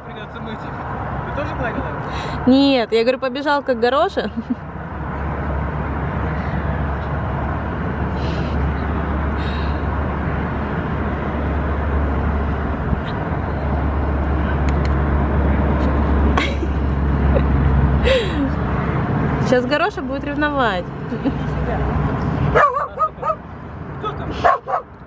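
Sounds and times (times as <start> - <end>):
vehicle traffic rumble: 0.0 - 25.0.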